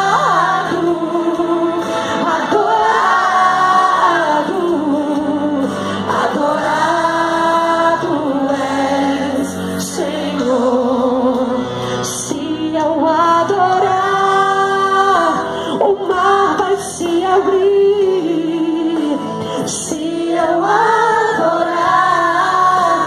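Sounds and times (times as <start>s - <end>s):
woman singing into a microphone: 0.0s - 23.0s.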